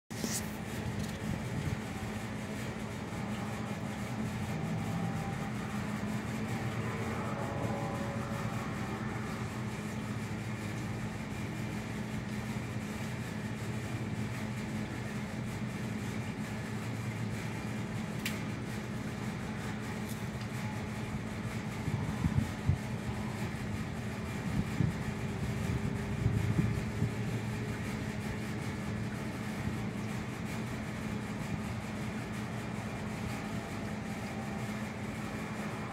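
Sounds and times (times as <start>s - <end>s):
low mechanical fan hum: 0.1s - 35.9s.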